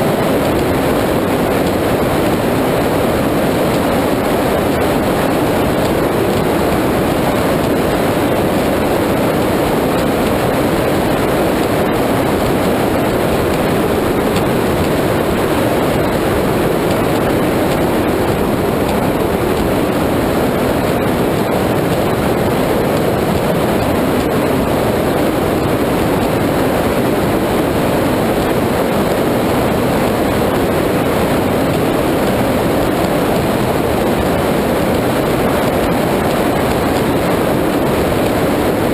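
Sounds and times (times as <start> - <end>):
powerboat running at speed: 0.0 - 38.9.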